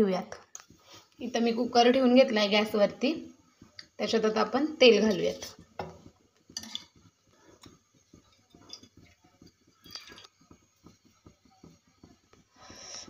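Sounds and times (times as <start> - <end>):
faint clicks and taps: 0.3 - 13.0.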